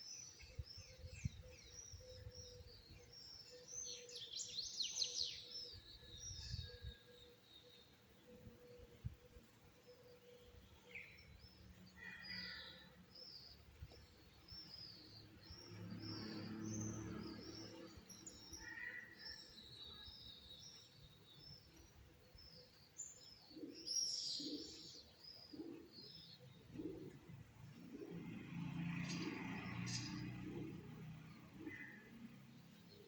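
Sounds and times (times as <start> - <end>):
songbirds chirping and twittering: 0.0 - 33.0.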